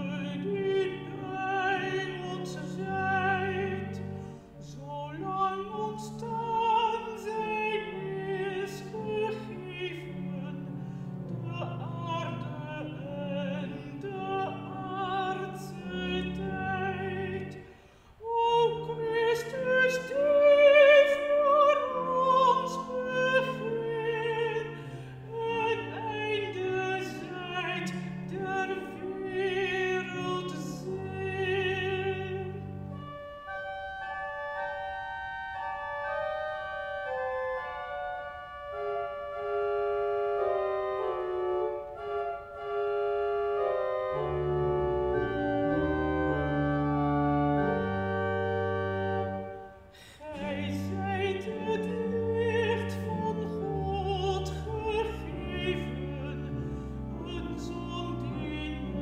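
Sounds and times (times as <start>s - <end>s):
church organ chords: 0.0s - 17.9s, 18.6s - 59.0s
alto voice singing with vibrato: 0.0s - 59.0s.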